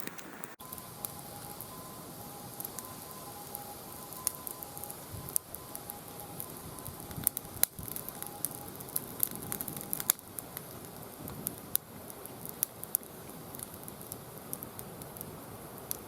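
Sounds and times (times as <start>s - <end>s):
faint steady fire hiss: 0.0s - 16.0s
wood fire crackling and popping: 0.0s - 16.0s.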